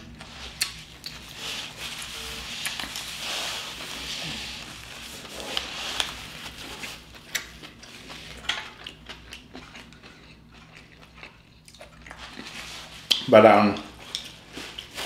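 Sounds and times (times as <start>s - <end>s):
chewing: 0.2s - 15.0s.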